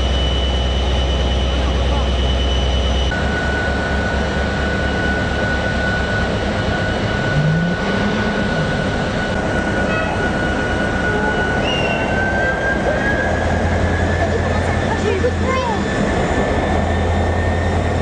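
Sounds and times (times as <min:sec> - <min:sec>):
high whine: 0:00.0 - 0:18.0
train engine and wheels rumbling: 0:00.0 - 0:18.0.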